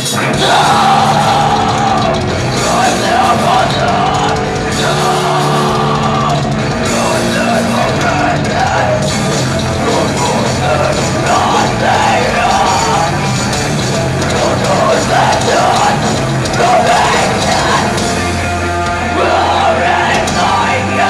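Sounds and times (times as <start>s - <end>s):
drum kit and cymbals: 0.0s - 21.0s
rock band playing live: 0.0s - 21.0s.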